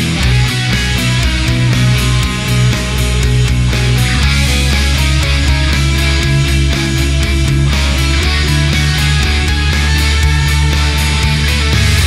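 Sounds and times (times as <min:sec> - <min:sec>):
driving drum beat: 0:00.0 - 0:12.0
rock music with electric guitar: 0:00.0 - 0:12.0.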